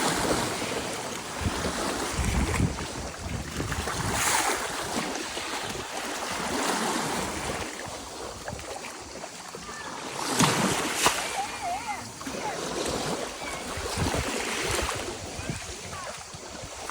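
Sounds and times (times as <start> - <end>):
wind buffeting microphone: 0.0 - 9.2, 10.5 - 16.9
sea waves washing: 0.0 - 16.9.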